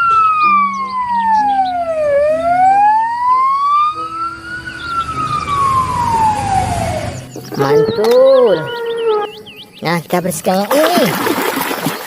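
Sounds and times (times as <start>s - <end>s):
police siren wailing: 0.0s - 9.7s.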